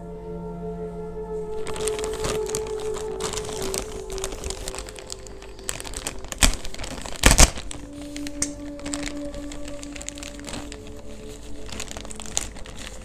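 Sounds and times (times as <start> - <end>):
plastic mailer crinkling: 1.5 - 13.0.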